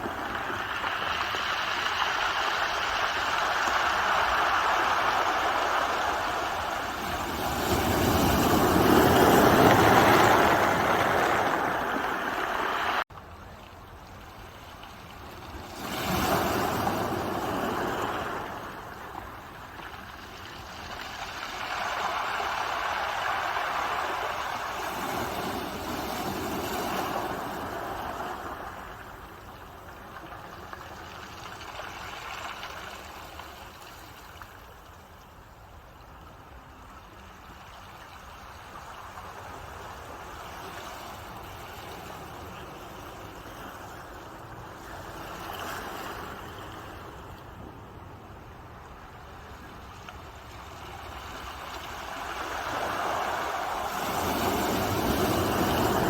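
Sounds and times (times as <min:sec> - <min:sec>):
ocean waves breaking on shore: 0:00.0 - 0:13.1, 0:13.9 - 0:35.1, 0:36.1 - 0:56.0.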